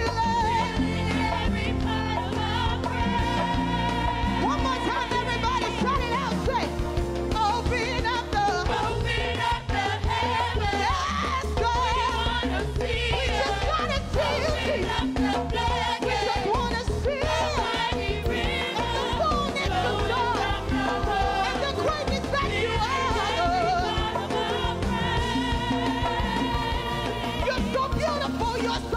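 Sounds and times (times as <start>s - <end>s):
instrumental accompaniment with bass: 0.0s - 28.9s
women singing gospel: 0.0s - 28.9s.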